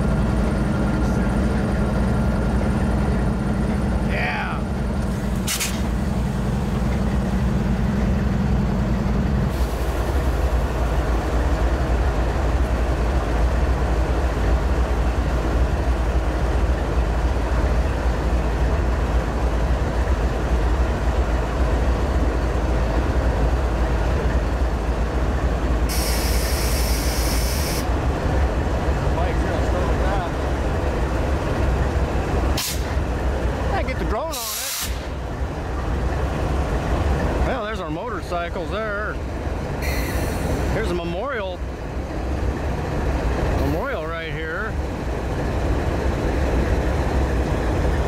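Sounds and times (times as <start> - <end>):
diesel locomotive rumbling: 0.0 - 48.0.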